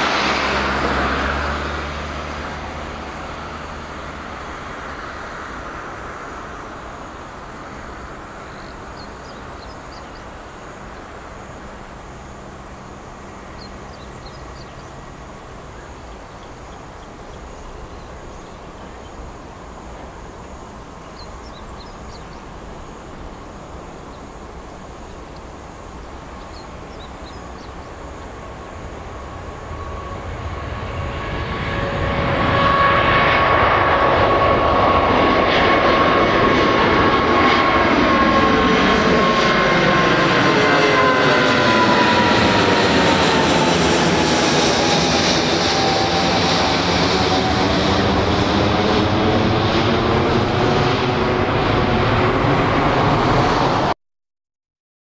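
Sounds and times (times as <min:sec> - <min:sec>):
jet airliner taking off overhead: 0:00.0 - 0:54.0.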